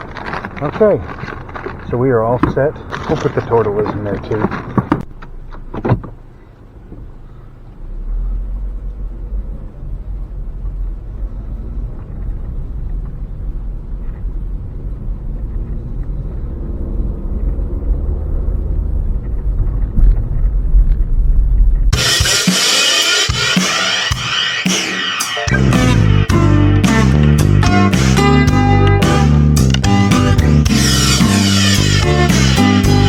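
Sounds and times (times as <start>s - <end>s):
vehicle rumbling: 0.0s - 33.0s.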